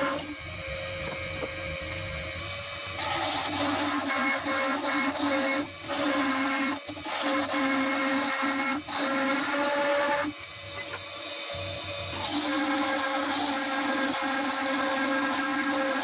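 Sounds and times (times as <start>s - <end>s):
gouge scraping spinning wood: 0.0s - 11.4s, 12.1s - 16.0s
wood lathe humming: 0.0s - 16.0s.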